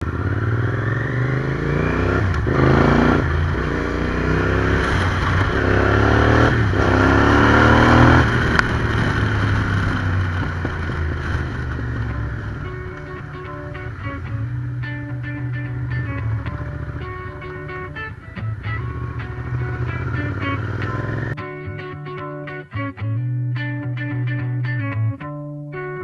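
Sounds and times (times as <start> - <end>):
motorcycle engine accelerating: 0.0 - 21.4.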